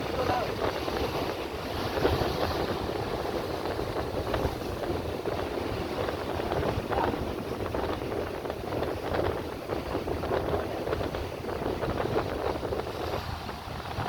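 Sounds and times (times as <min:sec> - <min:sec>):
surf: 0:00.0 - 0:14.0
wind buffeting microphone: 0:00.0 - 0:14.0.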